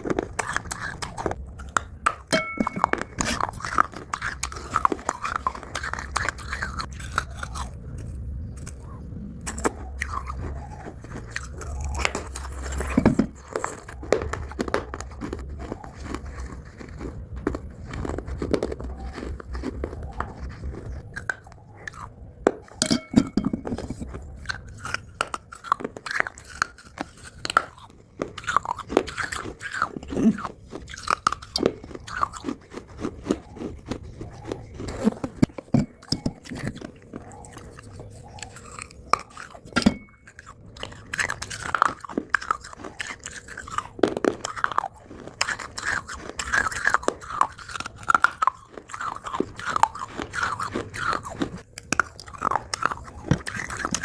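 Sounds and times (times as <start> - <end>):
crunchy chewing of dry clay: 0.0 - 54.0.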